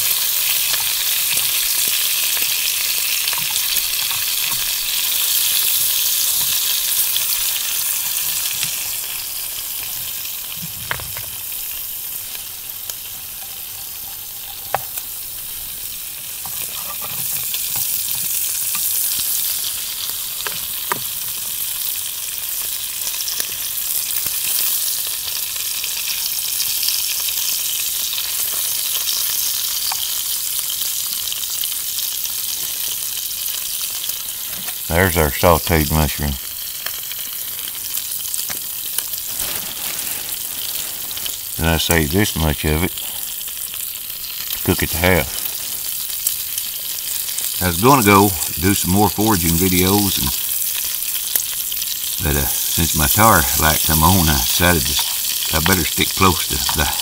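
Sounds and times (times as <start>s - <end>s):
mushroom sizzling in a pan: 0.0s - 57.0s.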